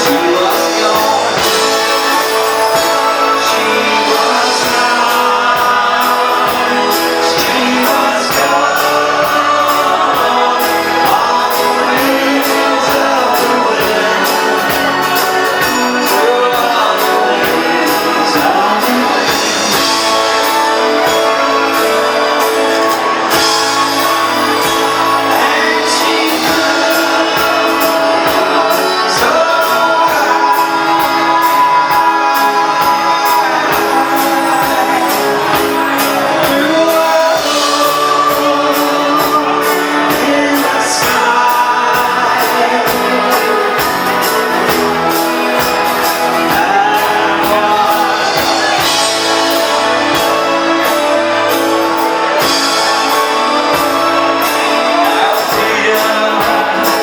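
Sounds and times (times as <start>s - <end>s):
person singing over instruments: 0.0s - 57.0s.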